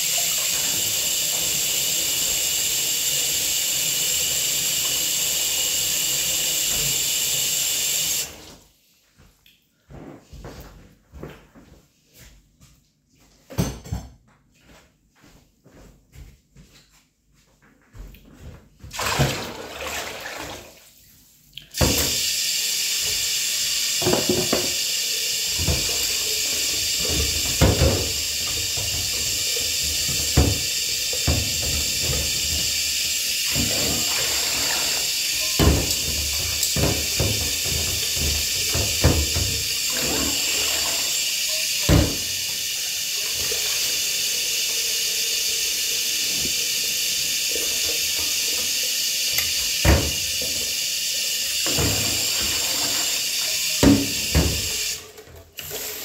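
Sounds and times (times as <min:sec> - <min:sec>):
tap water running into sink: 0:00.0 - 0:08.6, 0:18.8 - 0:20.8, 0:21.6 - 0:56.0.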